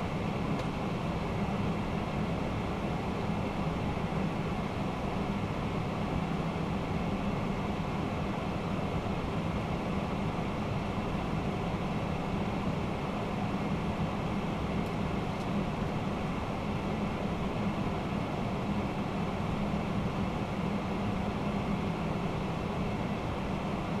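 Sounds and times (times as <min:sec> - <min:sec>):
constant low hum: 0:00.0 - 0:24.0.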